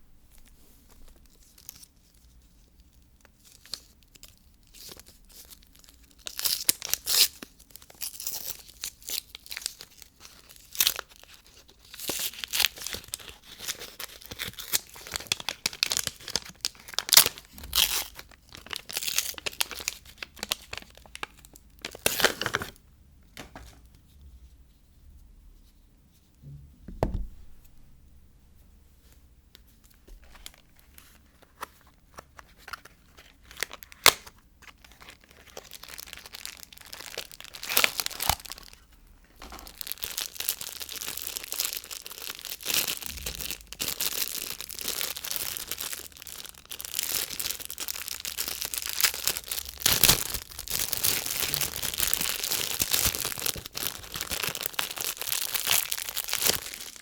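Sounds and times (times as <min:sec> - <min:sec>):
wrapper tearing and crinkling: 0:03.4 - 0:22.8, 0:30.1 - 0:57.0.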